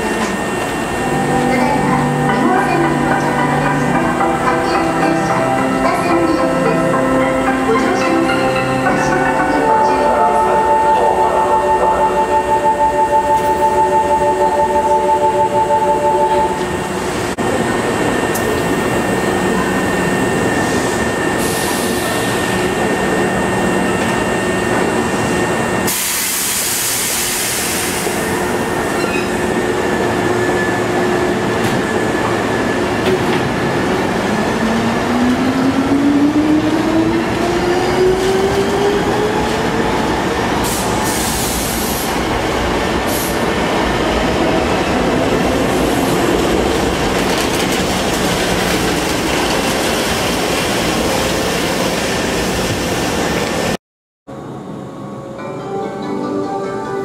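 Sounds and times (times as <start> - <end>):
train running noise: 0.0 - 55.4.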